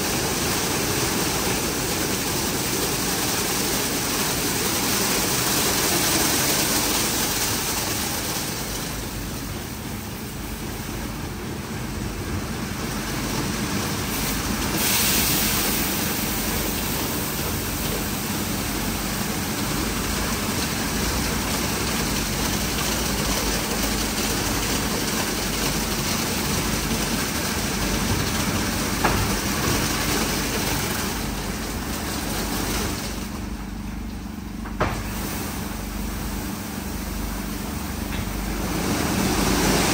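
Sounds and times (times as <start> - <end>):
car wash water rushing: 0.0 - 39.9.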